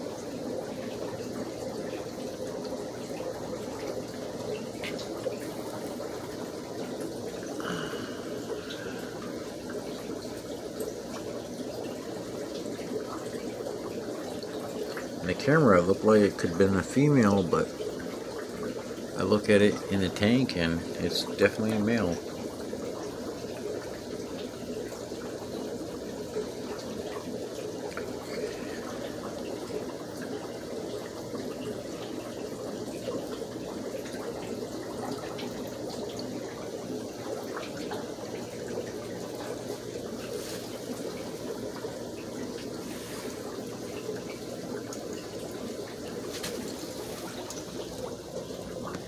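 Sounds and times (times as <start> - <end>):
water trickling: 0.0 - 49.0.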